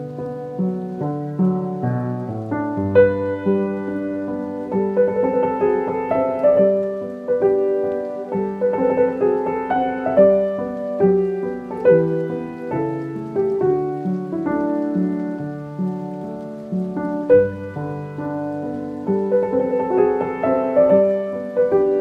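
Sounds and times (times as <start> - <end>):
slow classical piano music: 0.0 - 22.0.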